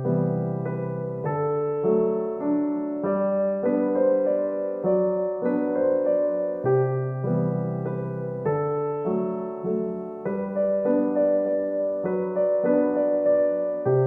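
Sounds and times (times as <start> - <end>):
gentle piano tune: 0.0 - 14.0.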